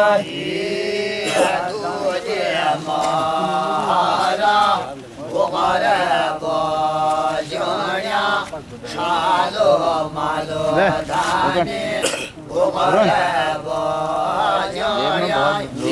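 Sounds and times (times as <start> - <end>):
devotional chanting: 0.0 - 15.9.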